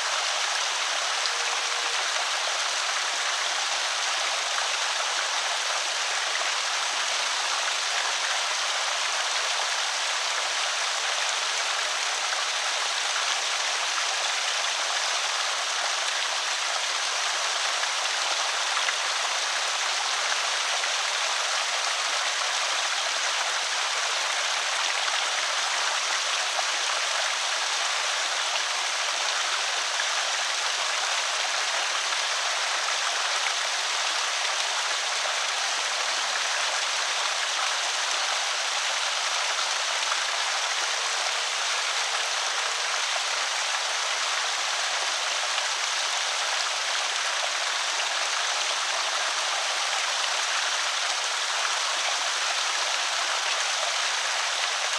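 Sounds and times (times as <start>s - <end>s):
water pouring over spillway: 0.0s - 54.9s.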